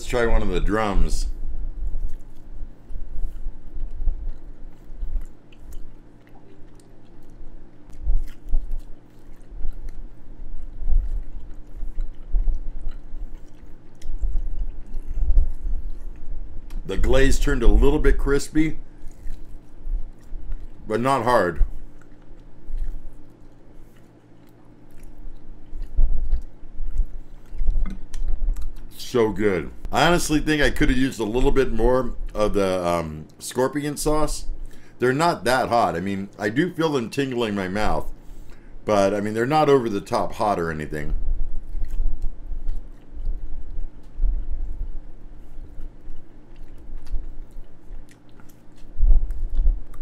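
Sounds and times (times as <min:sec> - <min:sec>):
person chewing chicken: 0:01.8 - 0:33.5, 0:41.4 - 0:50.0.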